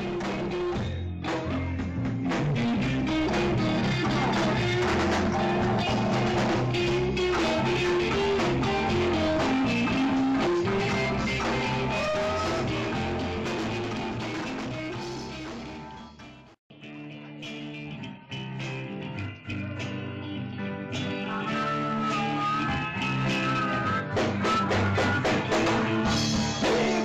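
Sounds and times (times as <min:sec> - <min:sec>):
drum kit: 0:00.0 - 0:16.6, 0:21.0 - 0:27.0
electric guitar line: 0:00.0 - 0:27.0.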